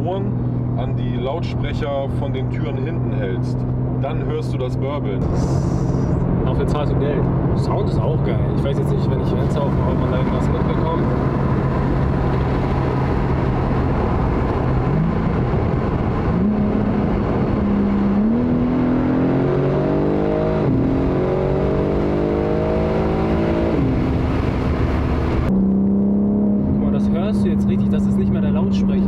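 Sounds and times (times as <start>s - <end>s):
car engine accelerating: 0.0s - 29.0s
road and wind noise: 0.0s - 29.0s.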